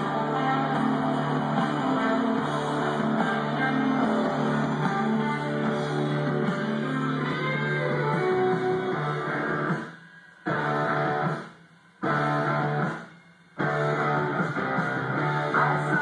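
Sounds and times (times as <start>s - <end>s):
guitar music through speakers: 0.0s - 16.0s.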